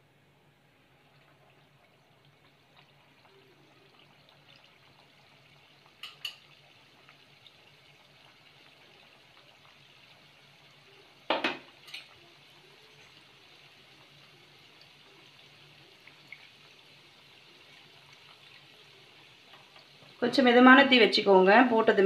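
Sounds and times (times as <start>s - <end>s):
dough sizzling in hot oil: 0.0s - 22.0s.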